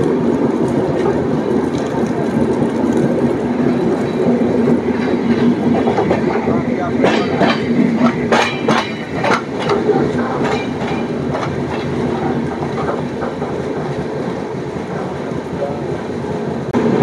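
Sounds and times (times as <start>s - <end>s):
train rumble: 0.0s - 17.0s
train wheels knocking on rail joints: 0.4s - 15.1s.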